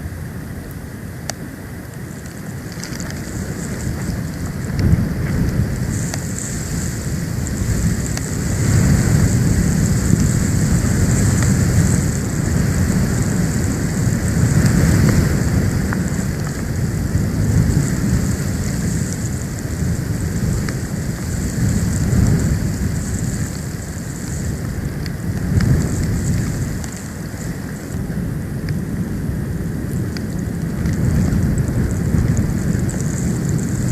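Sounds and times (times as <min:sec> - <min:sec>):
steady high hiss: 0:00.0 - 0:30.6
storm wind buffeting microphone: 0:00.0 - 0:33.9.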